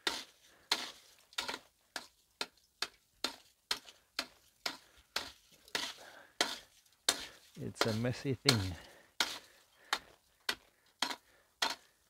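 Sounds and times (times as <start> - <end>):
ice axe chipping ice: 0.0 - 12.0.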